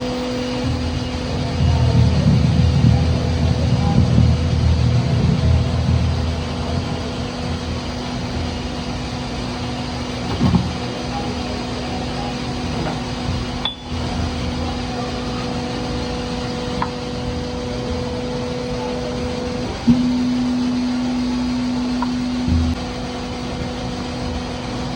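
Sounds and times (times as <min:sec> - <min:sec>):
broaching machine hum: 0:00.0 - 0:24.9.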